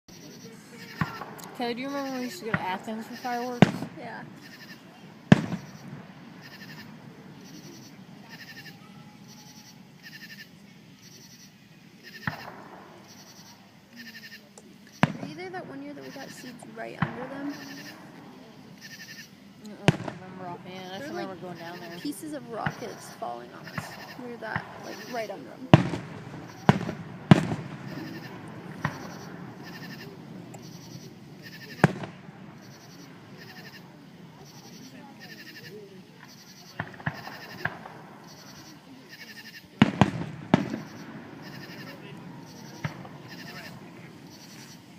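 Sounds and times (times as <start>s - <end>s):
murmur of distant voices: 0.0s - 44.9s
insects chirping: 0.1s - 44.9s
firework bang: 0.5s - 10.3s, 12.0s - 14.0s, 14.8s - 34.7s, 36.2s - 38.7s, 39.8s - 44.9s.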